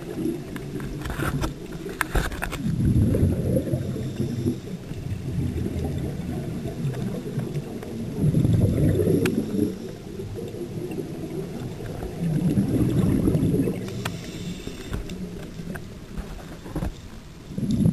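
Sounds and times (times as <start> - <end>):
underwater regulator bubbles: 0.0 - 16.9, 17.5 - 17.9.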